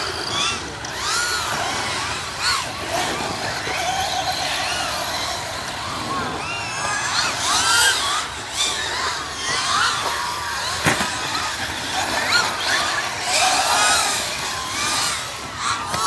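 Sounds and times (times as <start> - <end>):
rc car motors whining: 0.0 - 16.0.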